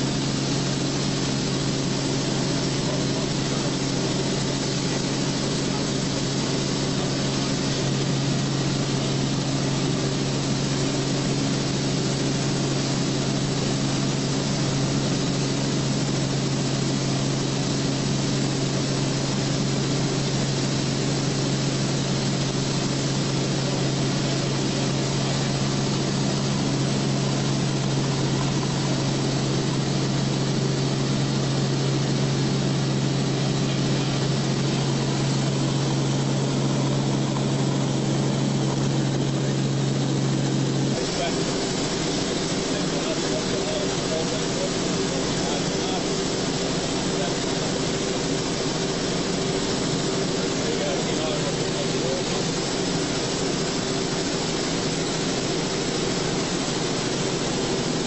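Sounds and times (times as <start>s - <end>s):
aircraft cabin engine hum: 0.0s - 58.0s.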